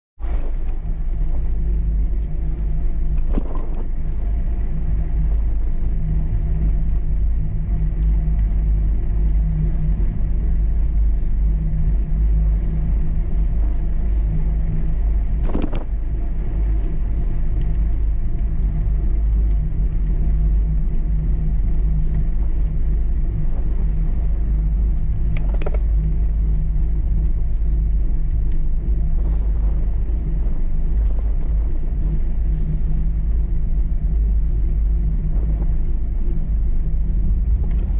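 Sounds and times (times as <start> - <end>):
bicycle tyre rumble: 0.2 - 37.9
wind buffeting microphone: 0.2 - 37.9.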